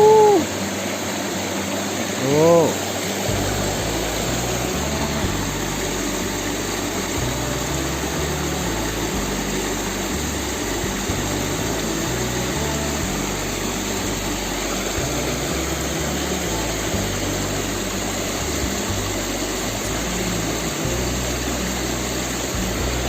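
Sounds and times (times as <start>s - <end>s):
river water flowing: 0.0s - 23.0s
low background music: 2.1s - 23.0s.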